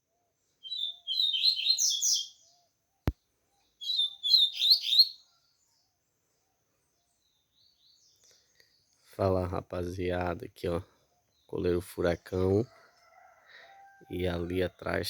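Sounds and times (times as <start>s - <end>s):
bird chirping song: 0.0s - 12.8s.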